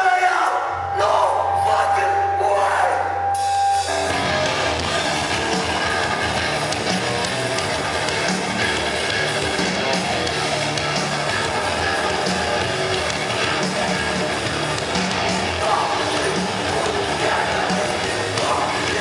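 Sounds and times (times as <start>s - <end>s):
live rock band playing: 3.0s - 19.0s.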